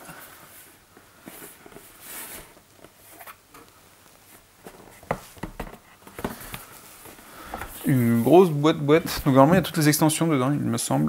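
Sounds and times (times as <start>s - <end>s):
cardboard rustling and scraping: 0.5s - 9.7s.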